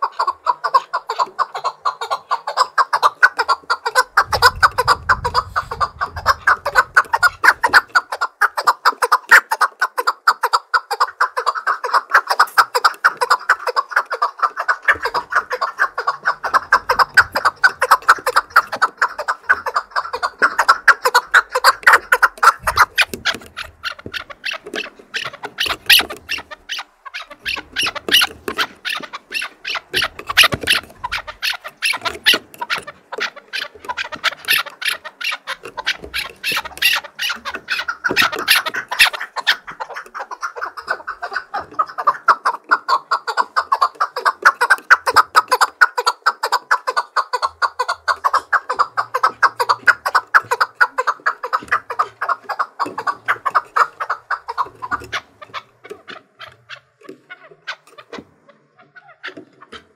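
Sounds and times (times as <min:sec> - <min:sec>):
partridge calling: 0:00.0 - 0:59.9.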